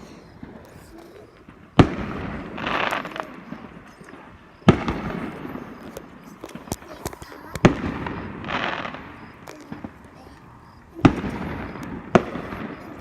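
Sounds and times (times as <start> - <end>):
firework crackling hiss: 0.0 - 13.0
firework shells booming: 0.0 - 13.0
small firework pops: 0.0 - 13.0.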